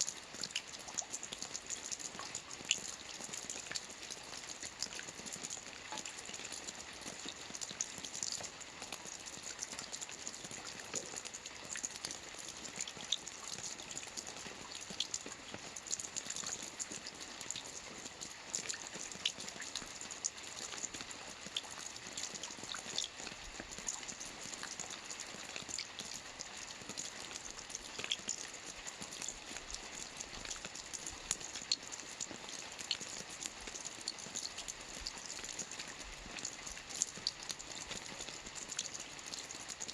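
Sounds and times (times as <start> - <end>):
rain falling on a lake: 0.0 - 39.9.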